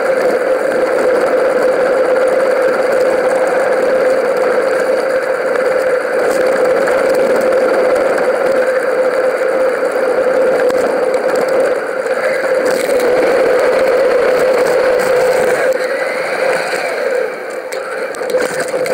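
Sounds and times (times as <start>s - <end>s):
bike rolling on tarmac: 0.0s - 18.9s.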